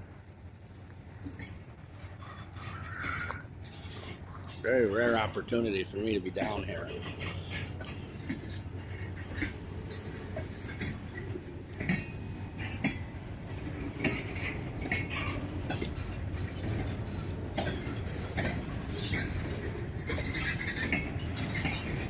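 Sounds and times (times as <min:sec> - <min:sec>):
freight train rumbling: 0:00.0 - 0:22.0
wheel squeals: 0:01.2 - 0:22.0.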